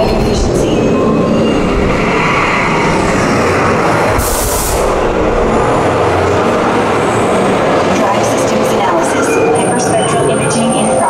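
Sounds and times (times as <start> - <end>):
ride vehicle rumbling on track: 0.0 - 11.0.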